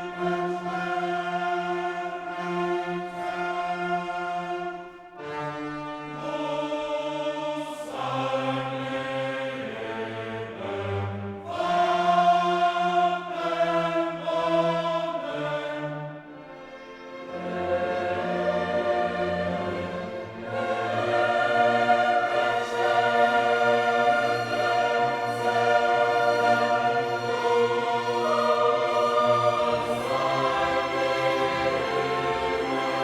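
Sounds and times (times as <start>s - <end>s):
choir singing held chords: 0.0s - 33.0s
orchestra: 0.0s - 33.0s.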